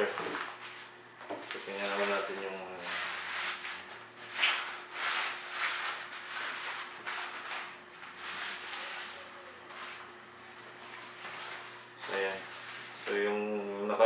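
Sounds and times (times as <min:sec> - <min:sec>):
fabric rubbing along a rod: 0:01.6 - 0:13.6.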